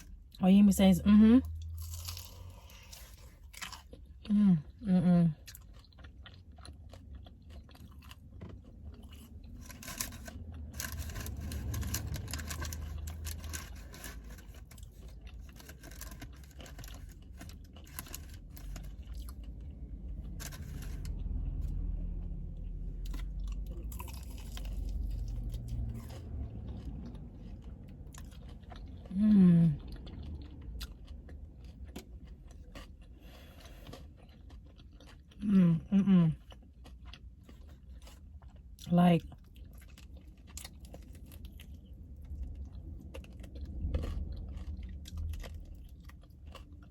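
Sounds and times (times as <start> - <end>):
low steady hum: 0.0 - 46.9
crunchy bites and chewing: 1.5 - 4.8, 5.4 - 46.9.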